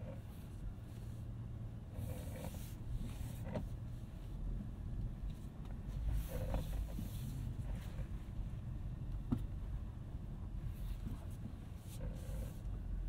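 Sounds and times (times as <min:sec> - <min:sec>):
engine rumble crawling: 0:00.0 - 0:13.0.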